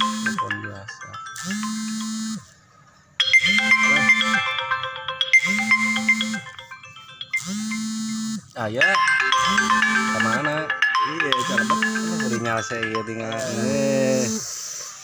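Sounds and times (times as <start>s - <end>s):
electronic chiming melody: 0.0s - 14.7s.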